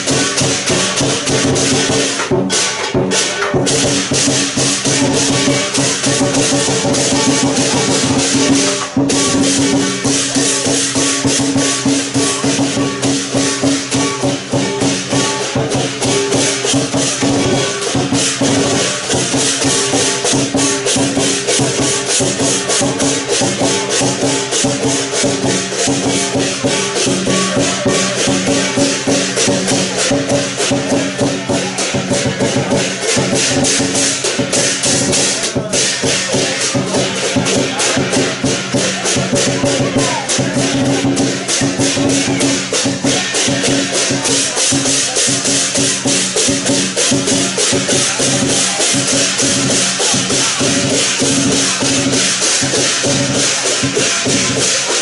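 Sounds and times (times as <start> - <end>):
clashing cymbals: 0.0 - 55.0
drum beating: 0.0 - 55.0.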